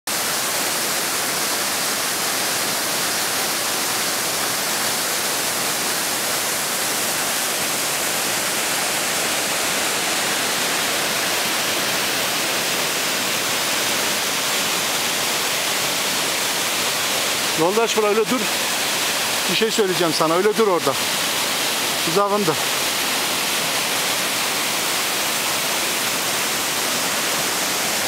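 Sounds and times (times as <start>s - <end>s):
waterfall rushing: 0.1s - 28.0s.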